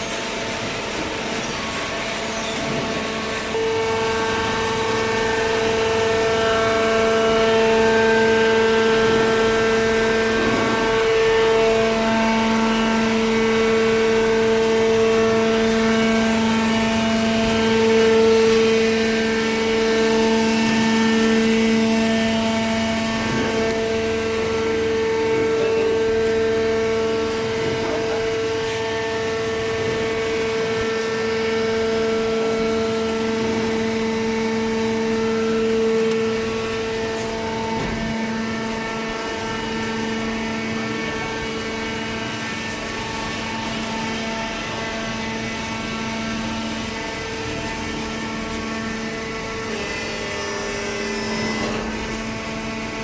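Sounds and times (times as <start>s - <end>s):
hydraulic machine humming and whining: 0.0s - 53.0s.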